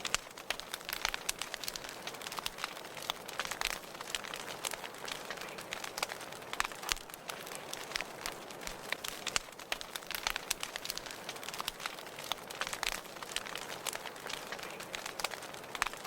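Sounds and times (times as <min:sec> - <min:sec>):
soft fire hiss: 0:00.0 - 0:16.0
wood fire crackling and popping: 0:00.0 - 0:16.0.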